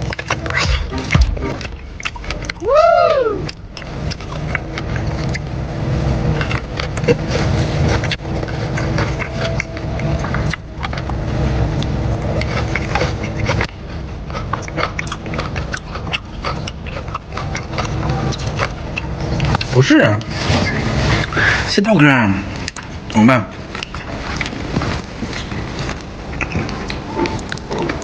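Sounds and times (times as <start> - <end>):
chewing and mouth sounds: 0.0 - 28.0
low rumble: 0.0 - 28.0.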